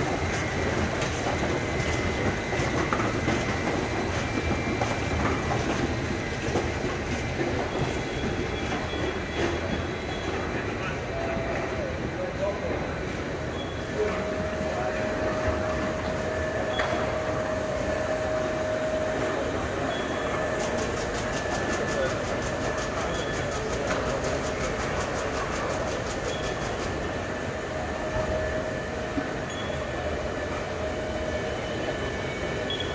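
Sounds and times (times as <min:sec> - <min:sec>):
packaging machinery running: 0:00.0 - 0:11.8, 0:13.6 - 0:32.9.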